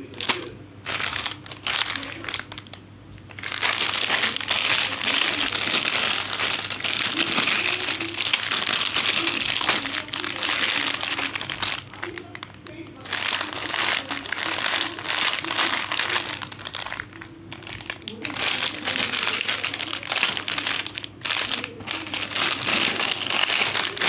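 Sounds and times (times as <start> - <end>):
candy packaging crinkling: 0.0 - 24.0.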